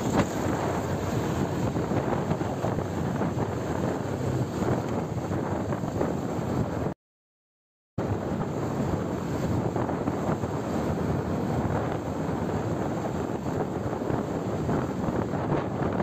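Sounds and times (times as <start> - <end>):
road noise: 0.0 - 6.9, 8.0 - 16.0
wind buffeting microphone: 0.0 - 7.0, 8.0 - 16.0.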